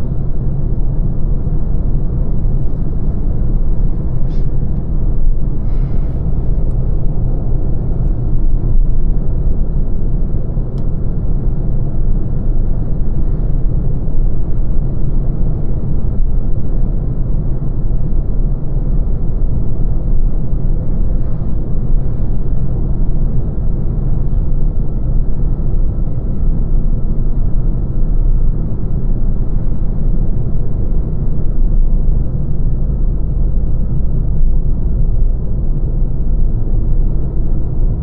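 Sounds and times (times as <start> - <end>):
road and tyre noise: 0.0 - 38.0.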